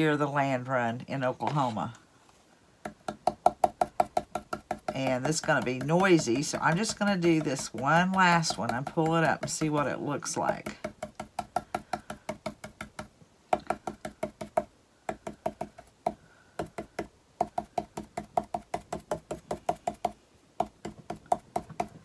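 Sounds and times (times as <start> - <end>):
stencil brush tapping on wood: 2.8 - 9.9, 10.5 - 22.0.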